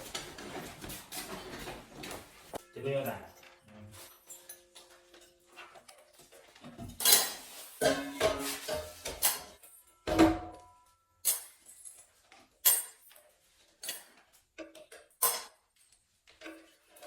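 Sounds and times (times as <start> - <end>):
metal tools clanking: 0.0 - 17.0.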